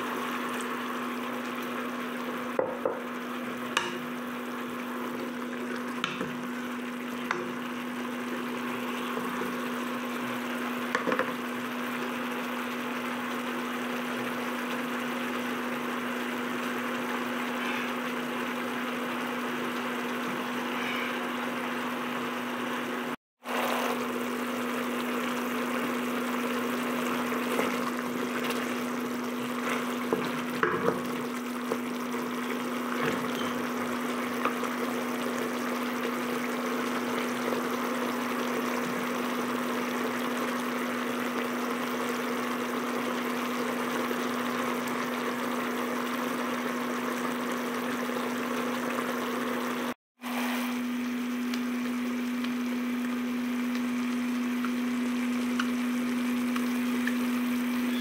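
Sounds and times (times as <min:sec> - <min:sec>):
sauce bubbling: 0:00.0 - 0:50.0.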